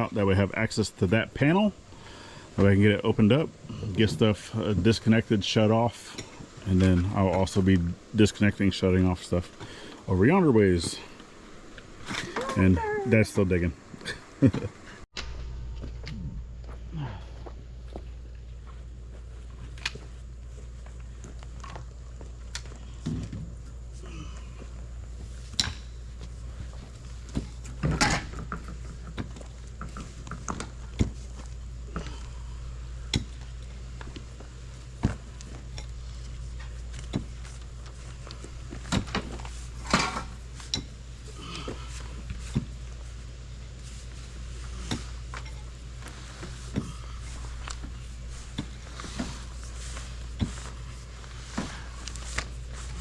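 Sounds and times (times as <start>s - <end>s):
steady low hum: 0.0s - 27.8s, 30.7s - 53.0s.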